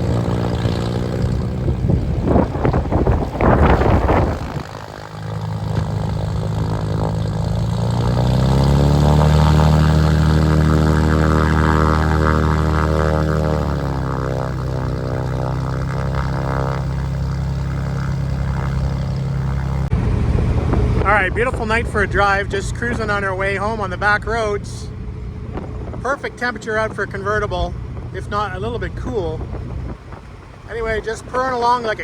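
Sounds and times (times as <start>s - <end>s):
car engine pulling: 0.0s - 32.0s
noisy rush: 0.0s - 32.0s.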